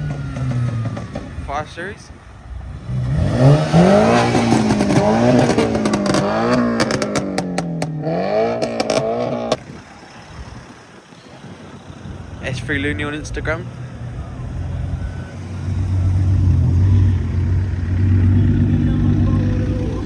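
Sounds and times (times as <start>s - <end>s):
car engine revving: 0.0s - 20.0s
sharp exhaust cracks: 0.0s - 20.0s.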